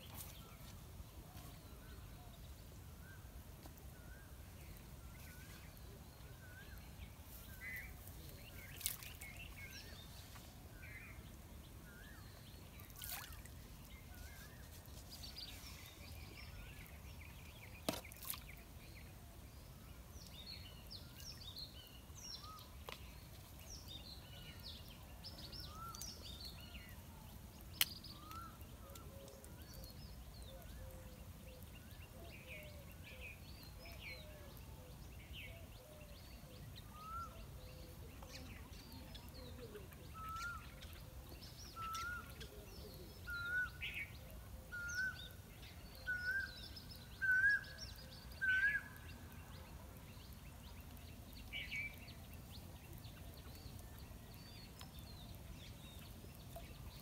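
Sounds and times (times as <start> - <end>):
birds chirping: 1.4 - 57.0.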